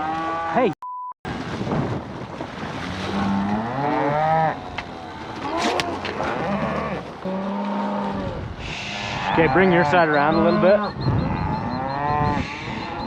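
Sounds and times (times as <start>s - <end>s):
cattle mooing: 0.0s - 0.8s, 2.9s - 13.0s.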